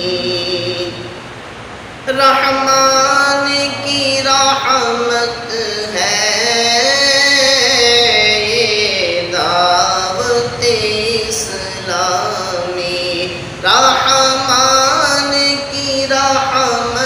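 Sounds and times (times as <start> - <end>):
young man singing: 0.0 - 1.2, 2.1 - 17.0.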